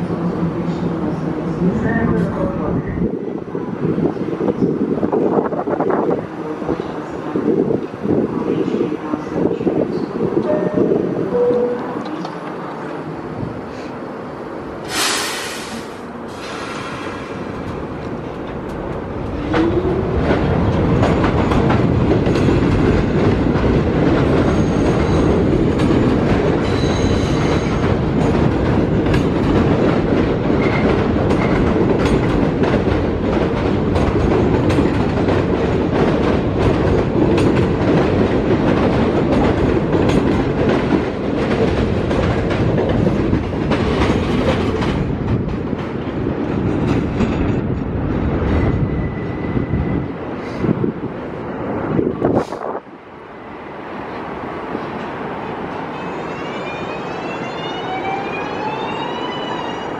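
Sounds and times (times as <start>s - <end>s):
train cars rumbling: 0.0s - 59.9s.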